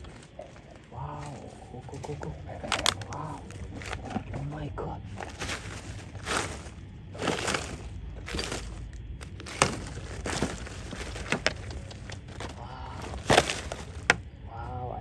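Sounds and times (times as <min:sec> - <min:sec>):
dry material crunching and cracking: 0:00.0 - 0:14.5.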